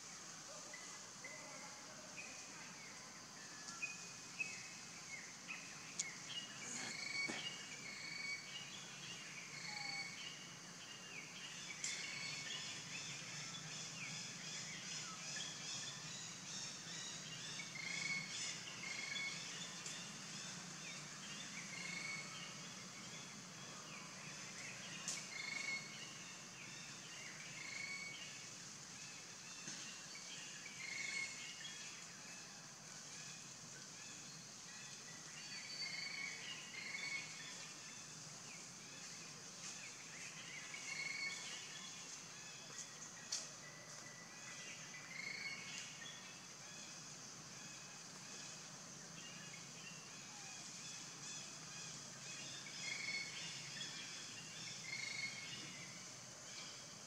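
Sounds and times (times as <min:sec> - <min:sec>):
high insect hum: 0:00.0 - 0:57.0.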